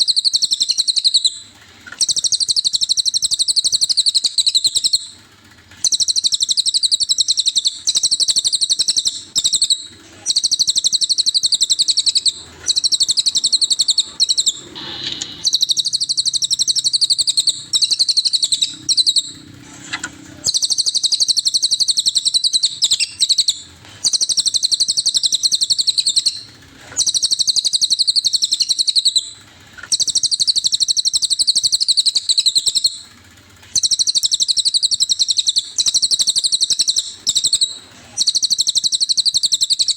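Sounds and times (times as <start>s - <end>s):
bird high-pitched trilling: 0.0s - 5.2s, 5.8s - 33.0s, 33.7s - 39.9s.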